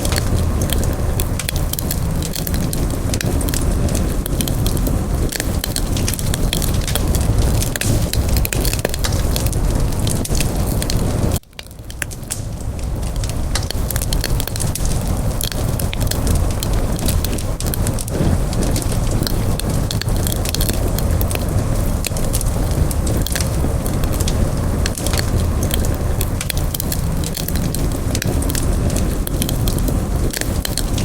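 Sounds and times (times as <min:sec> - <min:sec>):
campfire crackling and popping: 0:00.0 - 0:31.0
low fire rumble: 0:00.0 - 0:31.0.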